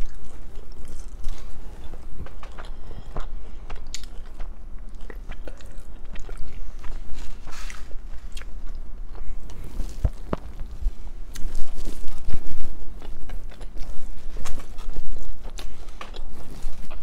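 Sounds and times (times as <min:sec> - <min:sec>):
food being bitten and chewed: 0:00.0 - 0:17.0
mouth clicks and crunches: 0:00.0 - 0:17.0.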